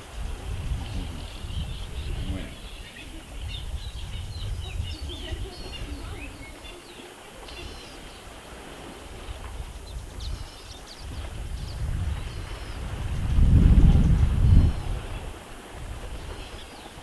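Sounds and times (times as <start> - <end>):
birds chirping: 0.0 - 13.1, 16.1 - 17.0.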